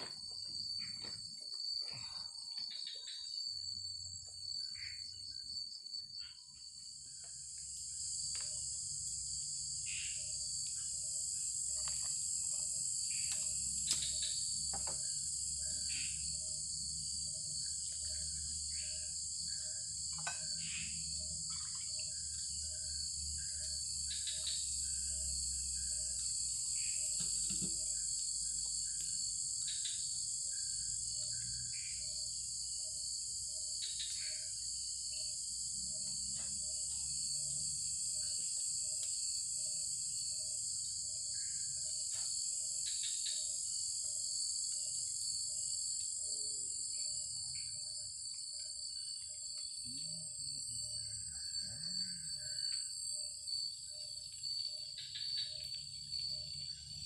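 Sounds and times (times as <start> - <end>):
insects trilling drone: 0.0 - 57.0.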